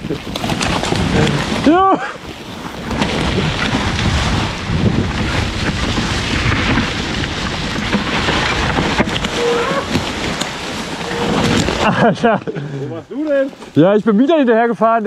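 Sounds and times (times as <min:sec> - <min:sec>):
wind buffeting microphone: 0:00.0 - 0:13.1
bike rattling over rough ground: 0:00.0 - 0:15.0.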